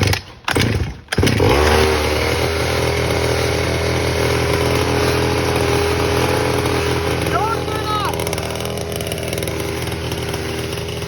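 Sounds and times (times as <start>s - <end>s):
small engine starting and idling: 0.0s - 11.0s.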